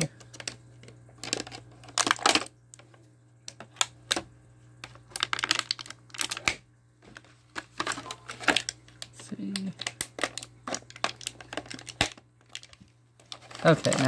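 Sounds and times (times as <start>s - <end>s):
plastic packaging crackling: 0.0s - 14.0s.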